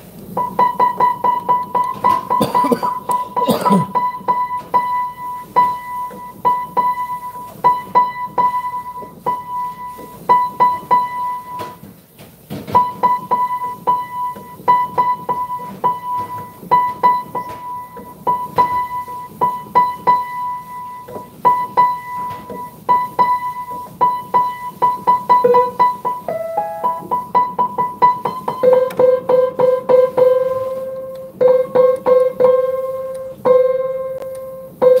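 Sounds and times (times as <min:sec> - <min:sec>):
piano octave: 0:00.0 - 0:11.9, 0:12.6 - 0:35.0
piano note struck repeatedly: 0:00.4 - 0:11.7, 0:12.8 - 0:35.0.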